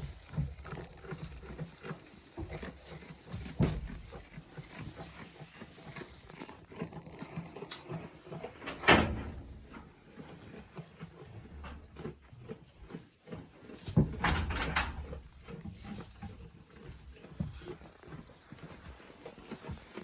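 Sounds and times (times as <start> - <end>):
goats scuffling: 0.0 - 10.8, 11.5 - 20.0.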